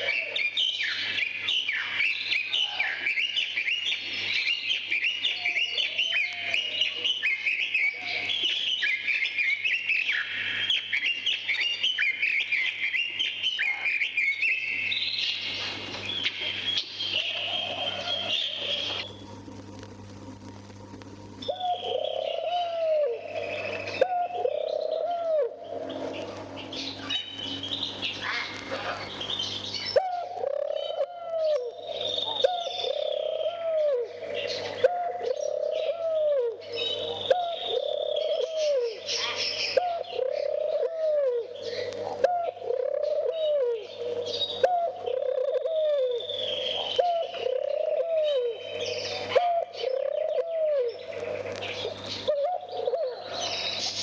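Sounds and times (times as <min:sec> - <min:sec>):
turtle doves cooing: 0:00.0 - 0:54.0
vinyl record crackle and hum: 0:00.0 - 0:54.0.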